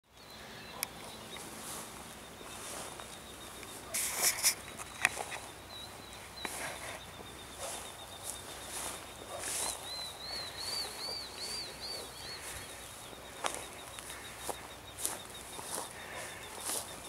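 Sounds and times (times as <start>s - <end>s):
crackles and rustles in grass: 0.2s - 17.0s.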